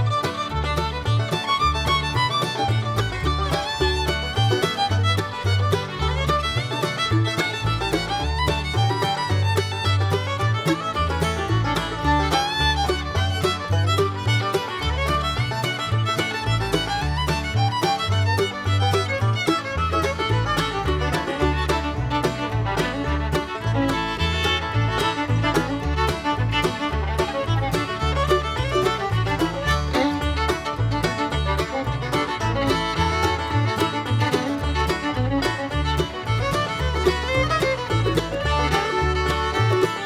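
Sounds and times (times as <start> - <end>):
bluegrass music with fiddle and bass: 0.0 - 40.0.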